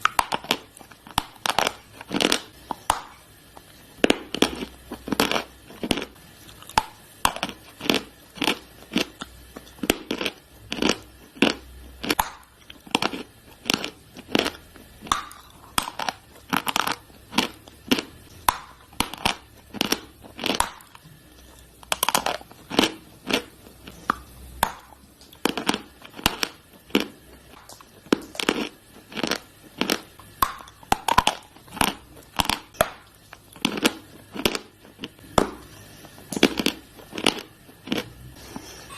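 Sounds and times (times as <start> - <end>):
chalk being chewed crunching: 0.0 - 38.9.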